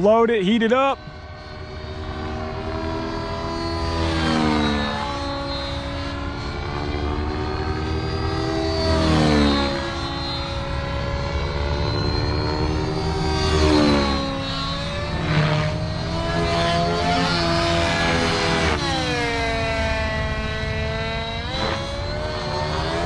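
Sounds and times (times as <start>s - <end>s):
model helicopter engine and rotor: 0.0s - 23.0s.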